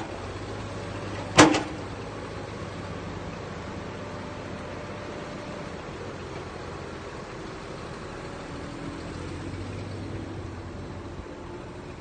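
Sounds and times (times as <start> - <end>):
diesel construction machinery running: 0.0 - 12.0.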